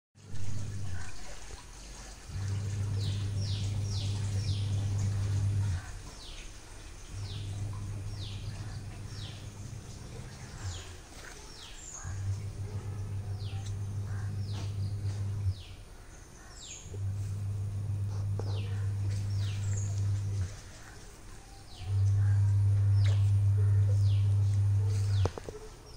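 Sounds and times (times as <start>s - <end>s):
low hum: 0.2s - 1.6s, 2.2s - 16.0s, 16.8s - 25.5s
birds calling: 0.3s - 25.9s.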